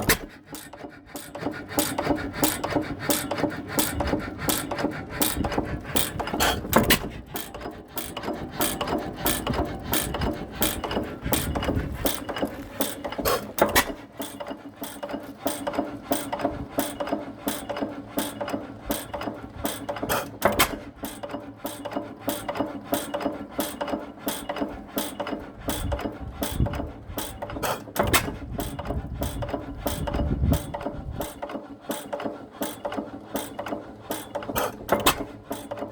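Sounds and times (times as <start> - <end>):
engine mechanism clicking: 0.0 - 35.9.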